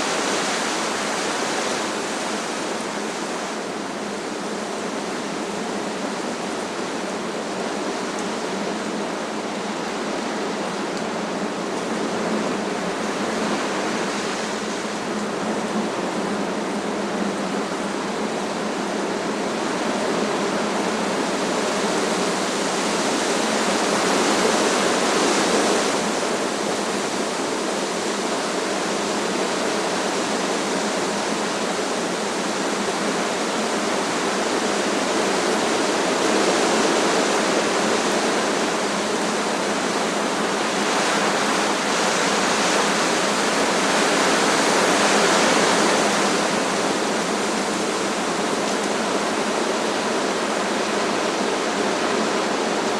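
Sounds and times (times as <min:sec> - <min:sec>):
strong wind rushing through trees: 0:00.0 - 0:52.9.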